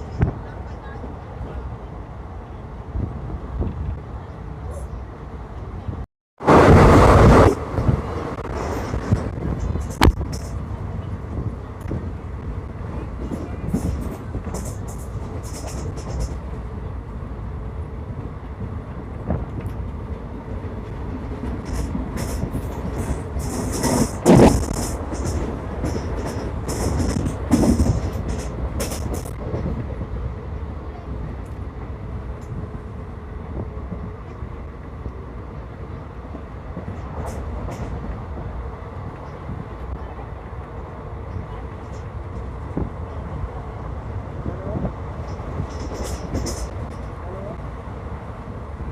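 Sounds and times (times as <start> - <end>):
train wheels rumbling on track: 0.0 - 48.9.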